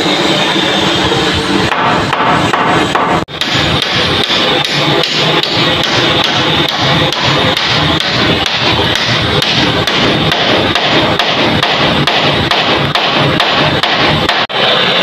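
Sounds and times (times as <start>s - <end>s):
hammer striking bamboo: 1.7s - 14.5s.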